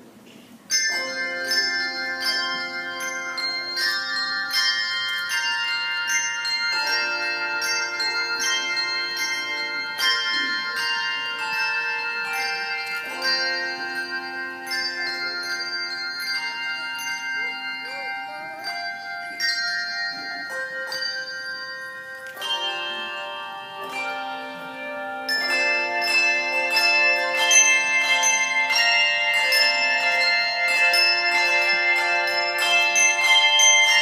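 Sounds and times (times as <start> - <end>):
handbell choir playing: 0.7 - 34.0.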